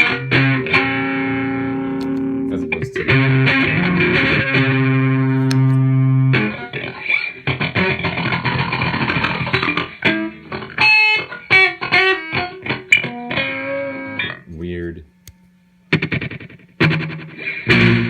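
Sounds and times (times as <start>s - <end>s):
distorted electric guitar with delay: 0.0s - 14.4s, 15.9s - 18.0s.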